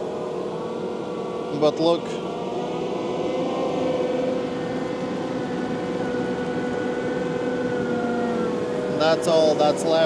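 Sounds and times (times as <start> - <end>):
machine drone with whine: 0.0 - 10.0.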